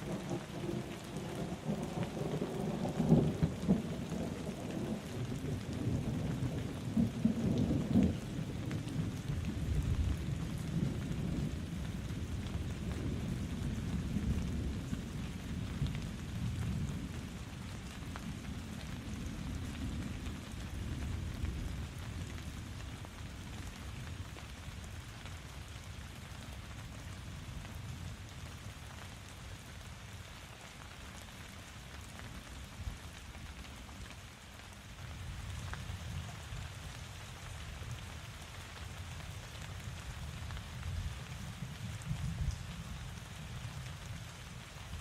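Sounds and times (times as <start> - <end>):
rain pattering on surfaces: 0.0 - 45.0.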